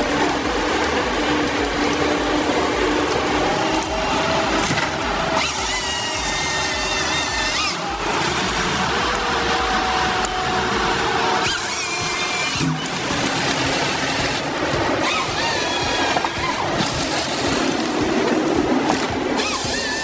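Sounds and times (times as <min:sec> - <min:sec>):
forestry machine engine and hydraulics: 0:00.0 - 0:20.0
high-pitched machine whine: 0:00.0 - 0:20.0.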